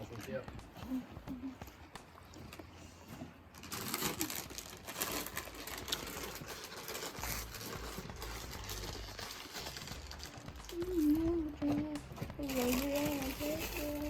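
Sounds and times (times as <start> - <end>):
footsteps crunching on ice: 0.0 - 14.0.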